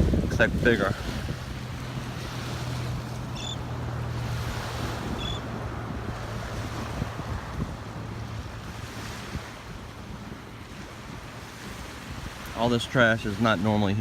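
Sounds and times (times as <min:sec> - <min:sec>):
small waves washing on beach: 0:00.0 - 0:14.0
wind on microphone: 0:00.0 - 0:14.0.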